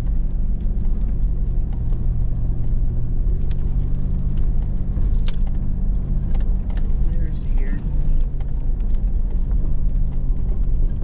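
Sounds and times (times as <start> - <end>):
engine rumble inside vehicle cabin: 0.0 - 11.0.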